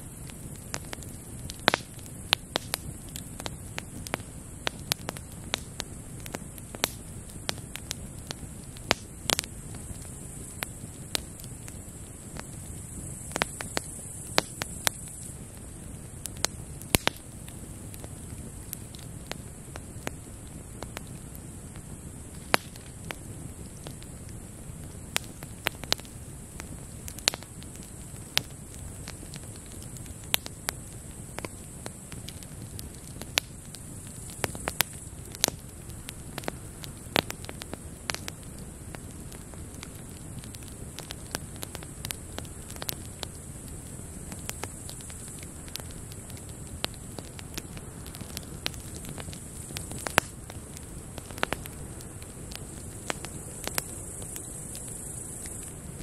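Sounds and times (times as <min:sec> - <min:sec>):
campfire crackling and popping: 0:00.0 - 0:56.0
grasshoppers hissing: 0:00.0 - 0:56.0
low rumble of flame: 0:00.0 - 0:56.0.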